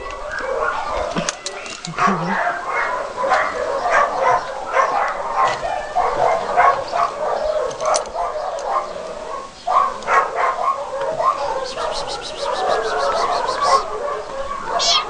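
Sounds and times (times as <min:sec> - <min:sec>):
dog barking and yipping: 0:00.1 - 0:15.0.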